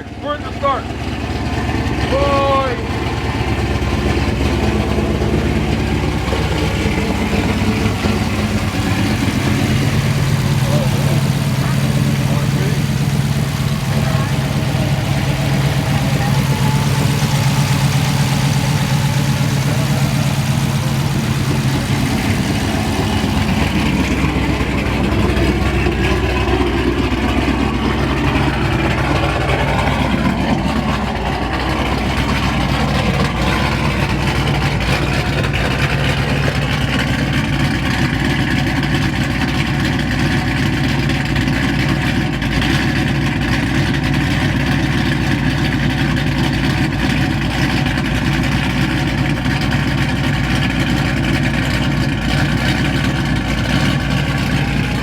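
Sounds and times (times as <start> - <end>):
car engine idling with choppy lope: 0.0 - 55.0.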